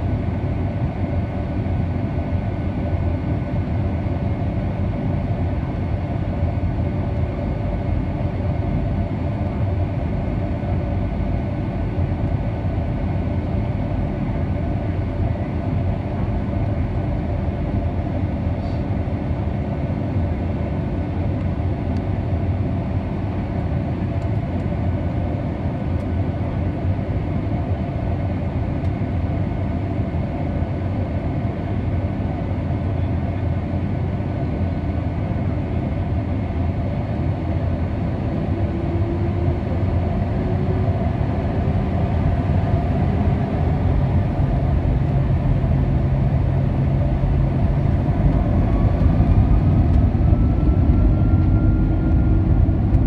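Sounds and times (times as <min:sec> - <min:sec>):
jet engines humming in cabin: 0:00.0 - 0:53.0.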